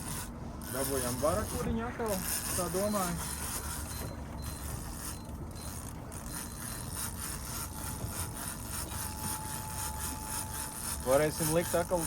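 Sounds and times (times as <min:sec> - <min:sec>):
fishing reel clicking: 0:00.0 - 0:12.0
steady low hum: 0:00.0 - 0:12.0.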